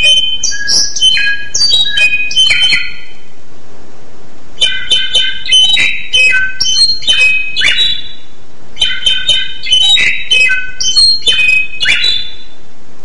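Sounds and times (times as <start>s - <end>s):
songbird singing: 0.0s - 3.3s, 4.6s - 12.7s.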